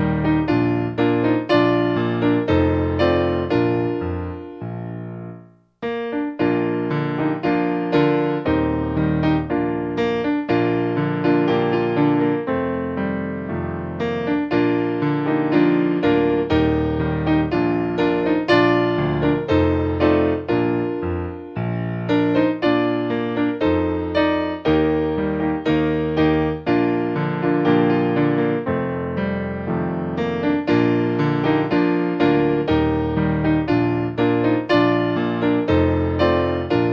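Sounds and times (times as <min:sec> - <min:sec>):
soft piano music: 0:00.0 - 0:36.9.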